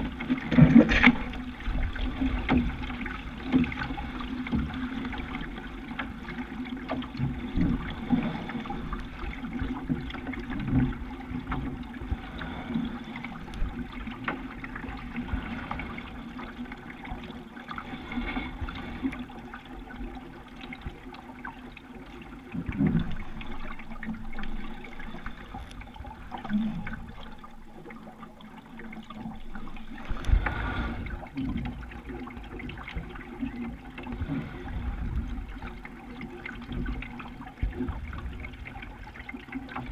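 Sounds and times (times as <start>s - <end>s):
water lapping against boat: 0.0s - 39.9s.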